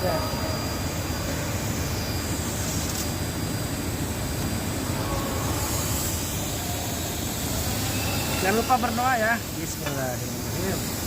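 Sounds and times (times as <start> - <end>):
even hiss: 1.2 - 11.0.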